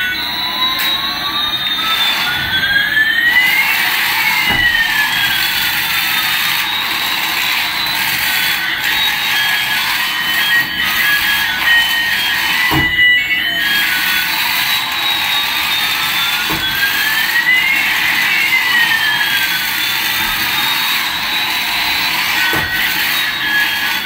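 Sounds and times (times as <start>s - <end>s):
toy electronic sound effects: 0.0s - 24.0s.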